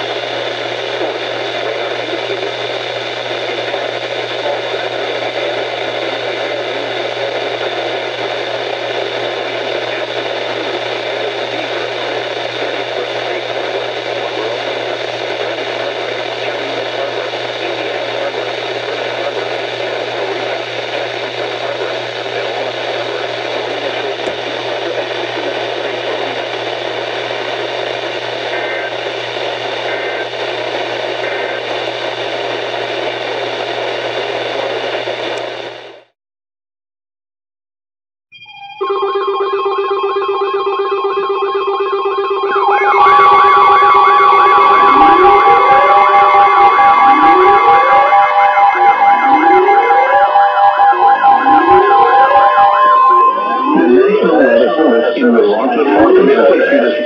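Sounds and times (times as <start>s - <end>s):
radio static hiss: 0.0s - 36.2s, 42.1s - 57.0s.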